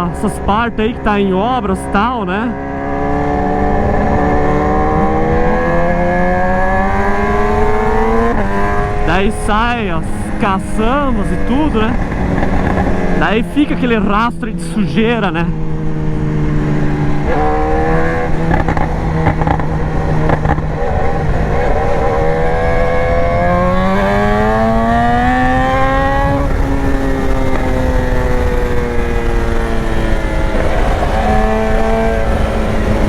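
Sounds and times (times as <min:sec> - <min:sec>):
motorcycle engine revving: 0:00.0 - 0:33.0
wind rush on microphone: 0:03.0 - 0:33.0.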